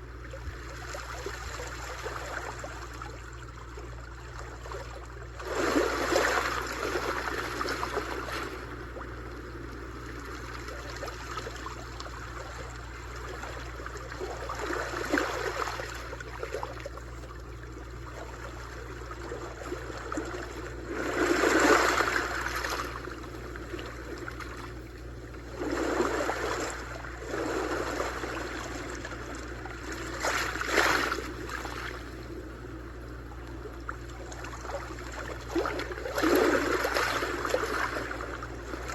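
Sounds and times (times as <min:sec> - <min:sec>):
sea waves washing in: 0:05.4 - 0:16.9, 0:18.0 - 0:38.9.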